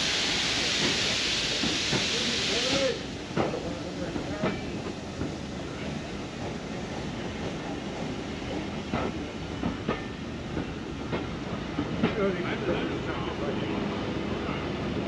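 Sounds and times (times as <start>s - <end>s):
train carriages rumbling: 0.0s - 15.0s.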